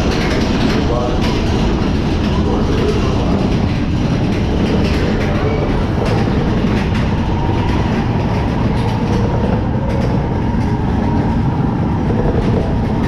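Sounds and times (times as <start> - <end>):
roller coaster rumble: 0.0 - 13.0
wheels clattering on track: 0.0 - 13.0.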